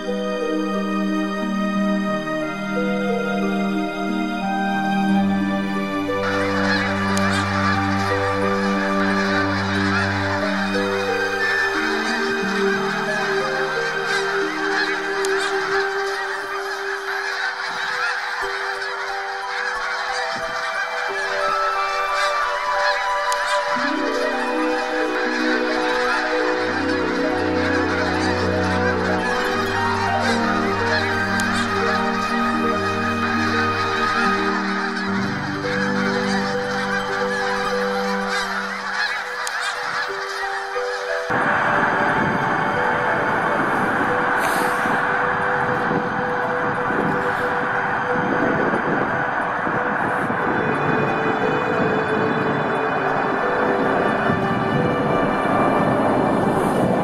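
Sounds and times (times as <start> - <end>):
background music with held notes: 0.0 - 57.0
flock of geese honking: 0.0 - 57.0.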